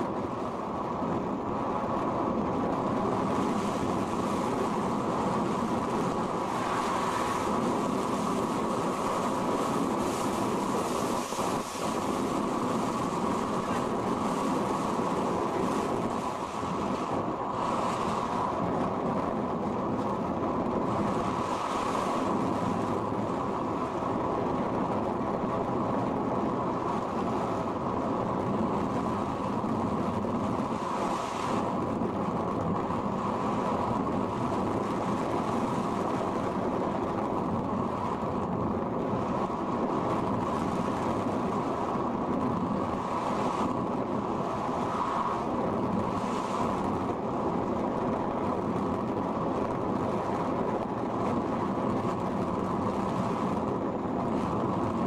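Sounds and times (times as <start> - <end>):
rushing airflow and wind noise: 0.0 - 55.0.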